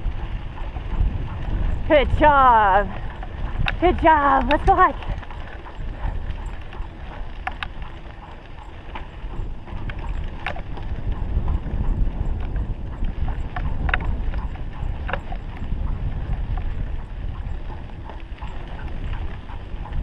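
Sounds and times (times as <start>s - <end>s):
rig rolling over dirt trail: 0.0s - 20.0s.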